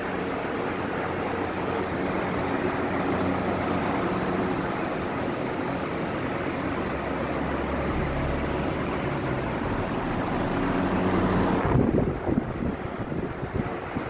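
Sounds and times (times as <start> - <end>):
air cooler fans rushing: 0.0 - 14.0
low motor hum: 0.0 - 14.0.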